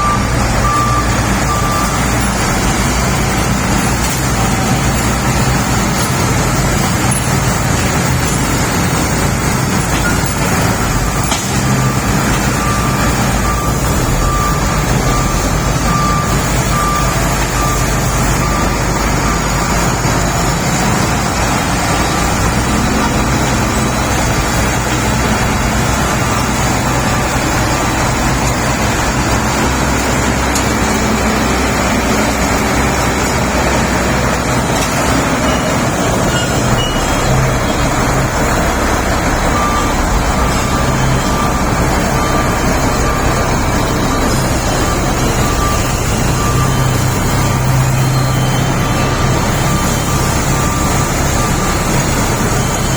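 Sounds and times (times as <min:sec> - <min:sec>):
bulldozer diesel engine running: 0:00.0 - 0:52.9
reverse alarm beeping: 0:00.0 - 0:52.9.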